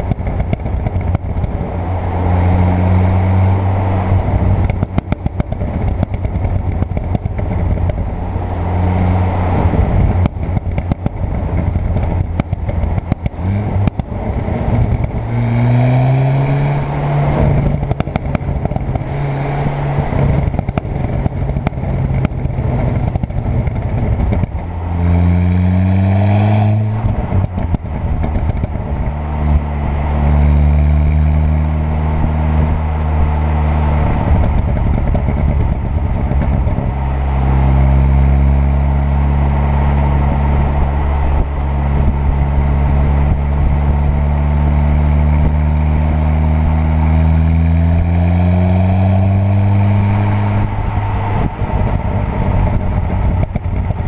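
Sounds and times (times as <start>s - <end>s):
exhaust pops and crackles: 0.0s - 1.8s, 4.0s - 8.3s, 9.6s - 16.2s, 17.1s - 31.7s, 32.8s - 54.0s
car engine and exhaust: 0.0s - 54.0s.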